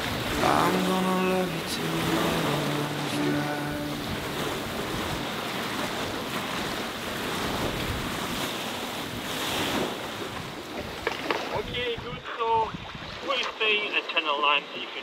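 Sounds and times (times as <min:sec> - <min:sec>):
wind and waves rushing: 0:00.0 - 0:15.0.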